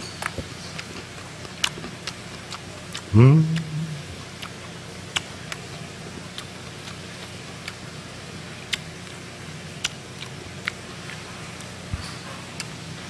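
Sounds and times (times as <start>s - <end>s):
person chewing crunchily: 0.0s - 13.0s
steady low hum: 0.0s - 13.0s.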